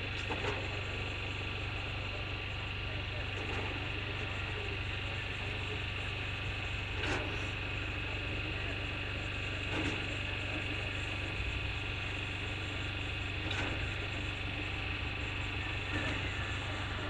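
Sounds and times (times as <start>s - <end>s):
engine humming with high whine: 0.0s - 17.0s.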